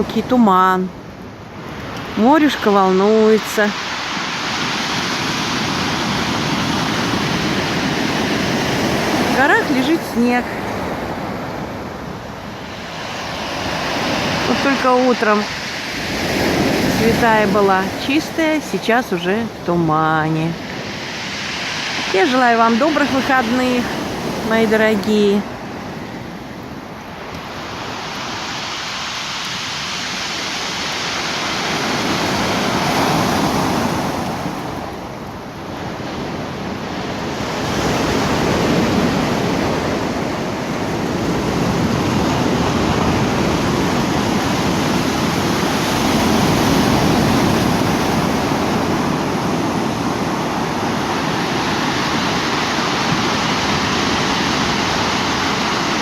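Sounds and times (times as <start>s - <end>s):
rough surf breaking on shore: 0.0s - 56.0s.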